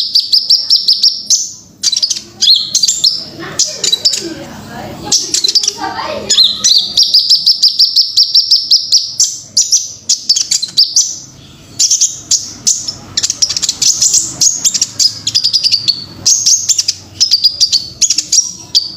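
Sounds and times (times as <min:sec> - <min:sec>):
bird chirps and trills: 0:00.0 - 0:18.9.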